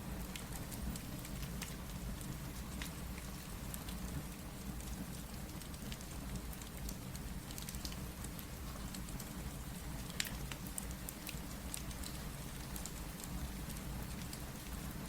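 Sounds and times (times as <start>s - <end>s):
steady rain: 0.0s - 15.0s
wood fire crackling: 0.1s - 15.0s.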